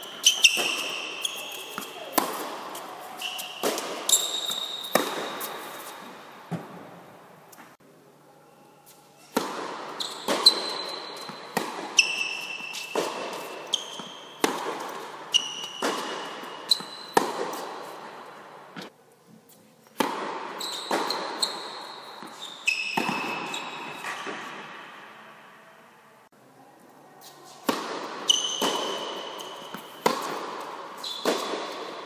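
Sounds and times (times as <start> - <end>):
tennis balls bouncing on hard court: 0.0 - 7.7, 9.3 - 19.0, 19.9 - 25.0, 27.6 - 32.0
tennis balls struck by rackets: 0.0 - 7.7, 9.3 - 19.0, 19.9 - 25.1, 27.6 - 32.0.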